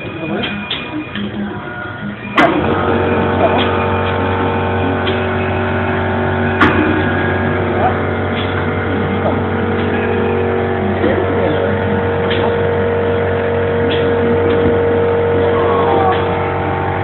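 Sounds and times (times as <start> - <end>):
excavator motor humming: 2.0 - 17.0.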